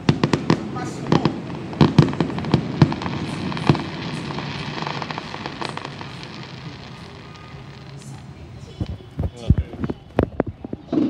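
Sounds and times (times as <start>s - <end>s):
fireworks bangs: 0.0s - 11.0s
fireworks crackling pops: 0.0s - 11.0s.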